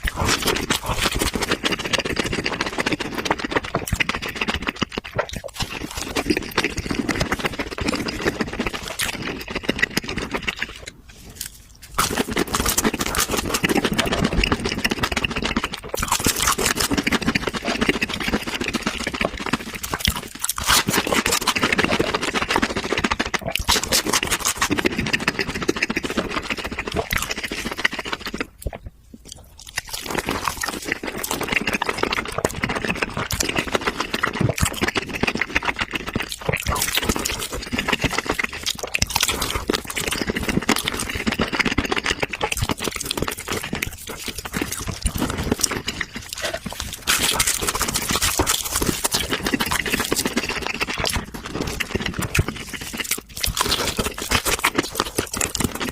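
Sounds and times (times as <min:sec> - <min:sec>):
crunching and chewing food: 0:00.0 - 0:55.9.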